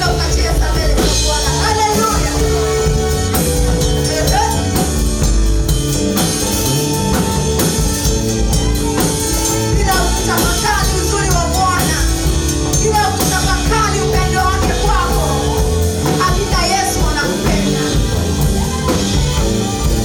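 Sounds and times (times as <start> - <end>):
person singing: 0.0 - 5.4, 8.6 - 19.5
gospel band playing: 0.0 - 20.0.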